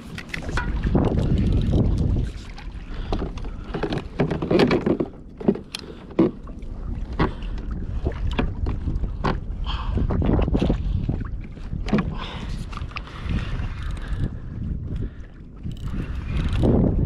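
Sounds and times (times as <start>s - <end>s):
wind on microphone: 0.0s - 5.2s, 6.2s - 17.0s
water splashing against kayak hull: 0.0s - 17.0s.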